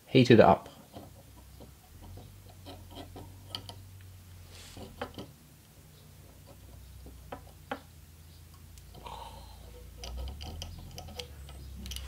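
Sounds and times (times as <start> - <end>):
low steady hum: 0.6 - 12.0.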